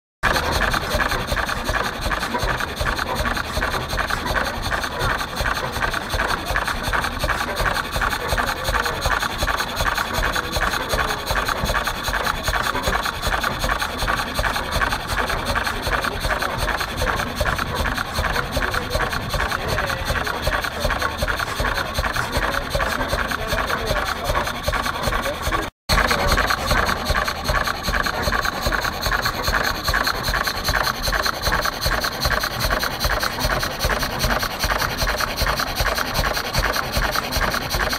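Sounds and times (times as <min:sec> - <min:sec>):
single-cylinder engine running: 0:00.2 - 0:37.9.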